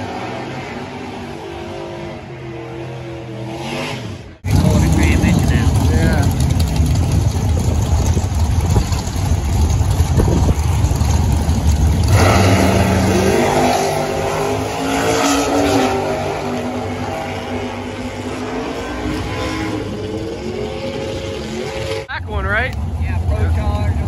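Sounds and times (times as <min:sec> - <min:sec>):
drag car engines revving: 0:00.0 - 0:24.0
drag cars rumbling: 0:00.0 - 0:24.0.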